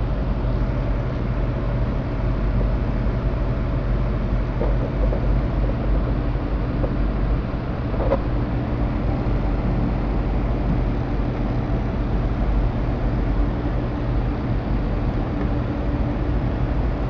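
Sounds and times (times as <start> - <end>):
stirling engine mechanical hum: 0.0 - 17.0.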